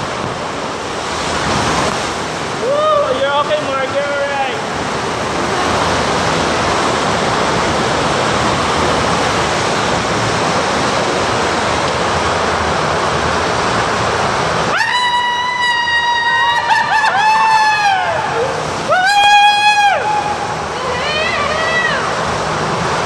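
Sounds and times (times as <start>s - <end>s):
water rushing through slide tube: 0.0s - 23.0s.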